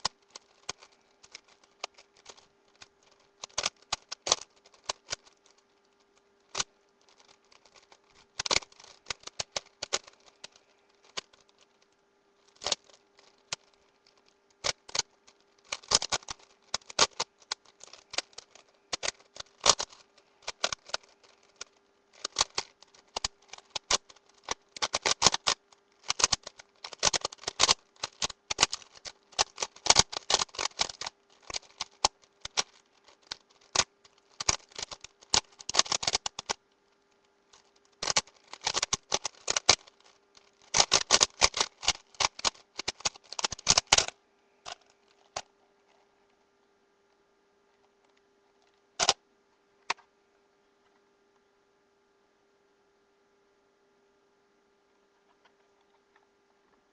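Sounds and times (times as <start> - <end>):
puzzle cube clacking: 0.0 - 36.6, 37.2 - 46.0, 49.0 - 49.2.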